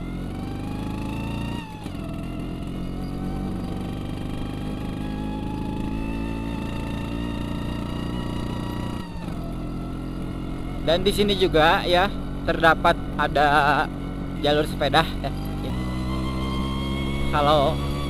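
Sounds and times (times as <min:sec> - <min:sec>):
scooter engine under throttle: 0:00.0 - 0:18.0.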